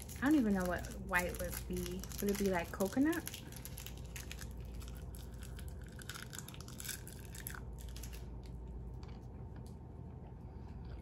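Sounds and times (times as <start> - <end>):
candy wrapper crinkling: 0.0 - 8.9.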